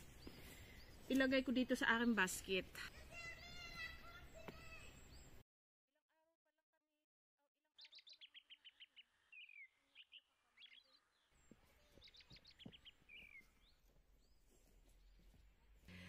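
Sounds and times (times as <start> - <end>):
songbird singing: 0.0 - 5.4, 7.8 - 15.9.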